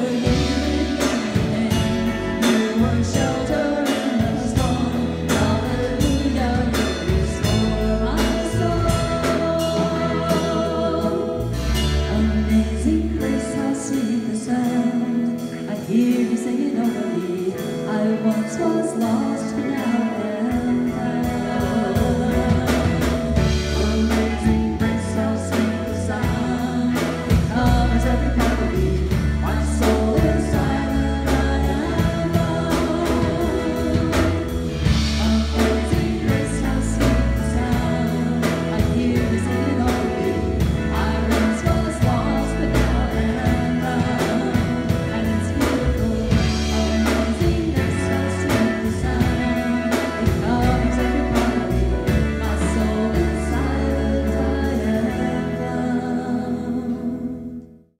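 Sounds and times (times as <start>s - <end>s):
drum kit: 0.0s - 57.5s
electric guitar: 0.0s - 57.9s
keyboard: 0.0s - 57.9s
person singing: 0.0s - 57.9s.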